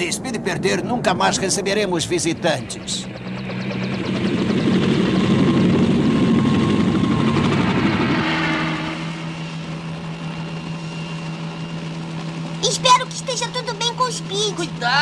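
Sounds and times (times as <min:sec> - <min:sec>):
helicopters droning in flight: 0:00.0 - 0:15.0.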